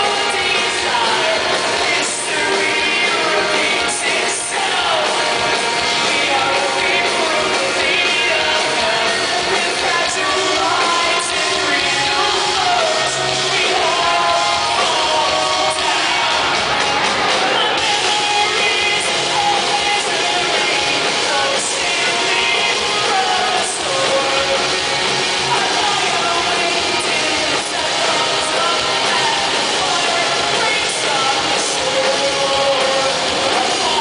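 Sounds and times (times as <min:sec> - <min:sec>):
electric guitar: 0:00.0 - 0:34.0
live rock band playing: 0:00.0 - 0:34.0
person singing: 0:00.0 - 0:34.0.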